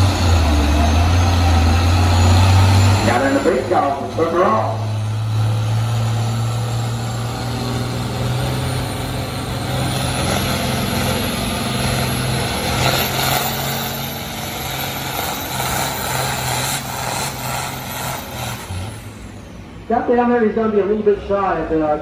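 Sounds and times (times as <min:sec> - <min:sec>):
tractor engine under load: 0:00.0 - 0:20.4.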